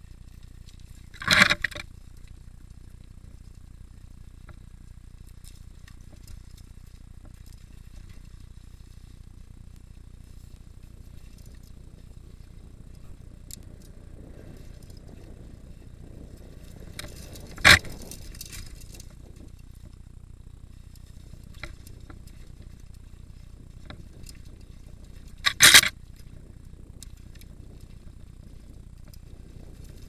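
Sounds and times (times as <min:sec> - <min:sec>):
bike rattling over rocks: 0:00.0 - 0:30.0
bike tyres rumbling on rocky trail: 0:00.0 - 0:30.0.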